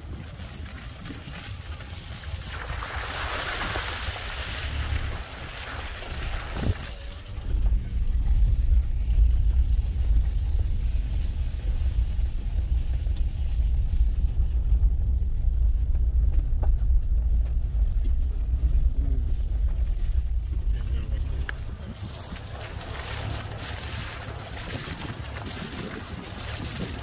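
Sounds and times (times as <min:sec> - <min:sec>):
vehicle driving on dirt track: 0:00.0 - 0:27.0.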